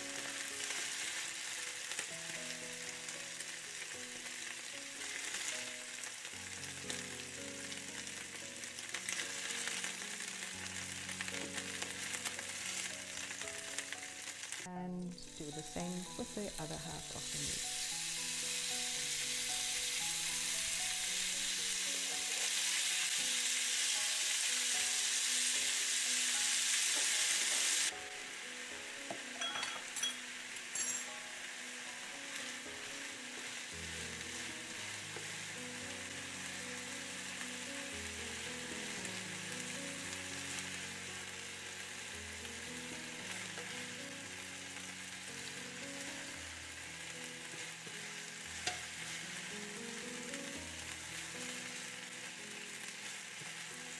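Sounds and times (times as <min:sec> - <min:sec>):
beef sizzling in a frying pan: 0:00.0 - 0:53.9
soft background music: 0:00.0 - 0:53.9.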